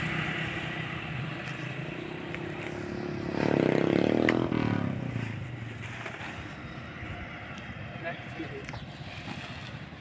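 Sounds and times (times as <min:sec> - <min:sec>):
motorcycle passing by: 0:00.0 - 0:10.0.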